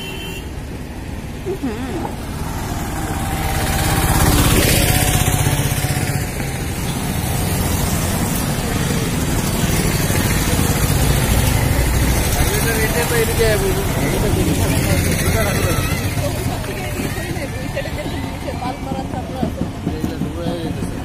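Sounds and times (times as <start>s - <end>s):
road noise: 0.0s - 21.0s
vehicle engine rumble: 0.0s - 21.0s.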